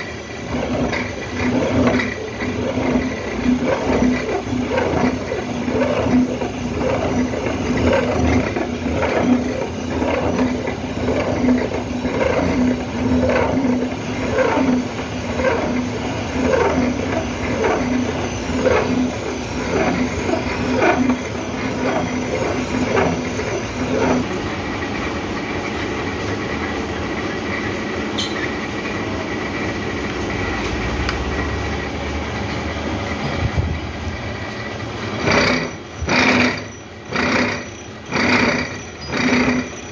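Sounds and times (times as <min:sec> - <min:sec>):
milling machine humming: 0:00.0 - 0:39.9.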